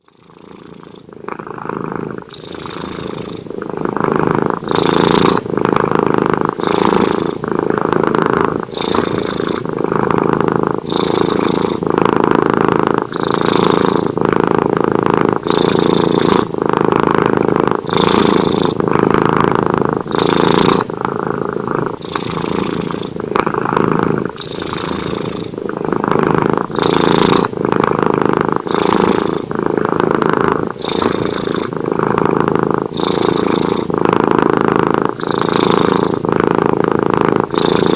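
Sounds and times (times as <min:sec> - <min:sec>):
cat snoring: 0:00.0 - 0:37.9.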